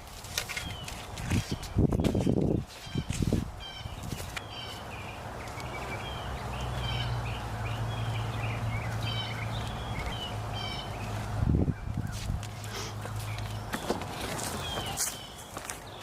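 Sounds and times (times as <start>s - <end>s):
small bird chirping: 1.6s - 16.0s.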